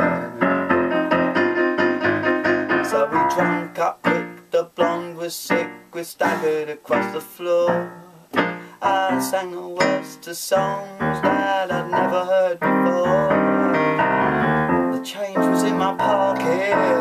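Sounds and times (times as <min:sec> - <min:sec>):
piano chords on digital keyboard: 0:00.0 - 0:17.0.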